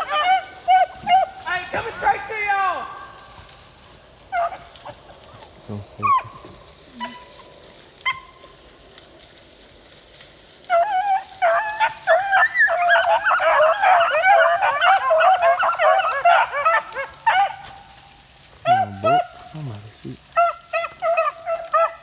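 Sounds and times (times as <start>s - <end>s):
hounds baying: 0.0s - 9.4s, 10.2s - 22.0s.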